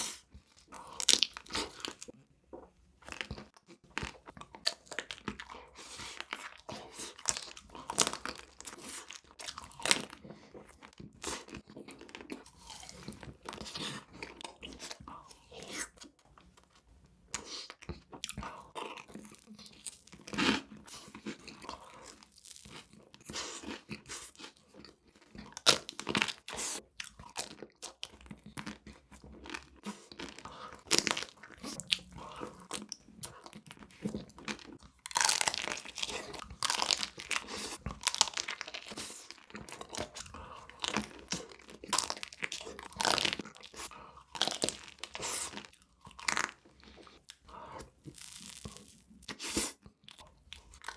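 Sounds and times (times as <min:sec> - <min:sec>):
crunching sweets: 0:00.0 - 0:50.9
soft chewing: 0:00.0 - 0:50.9.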